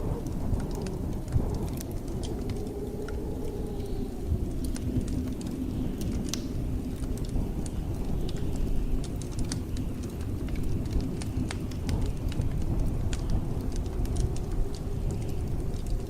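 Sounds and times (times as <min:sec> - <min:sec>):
blizzard wind rushing: 0:00.0 - 0:16.0
wood fire crackling: 0:00.0 - 0:16.0.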